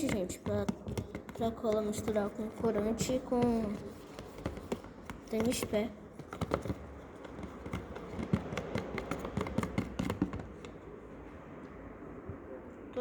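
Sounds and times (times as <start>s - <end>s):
utensil stirring and clicking in container: 0.0s - 10.7s.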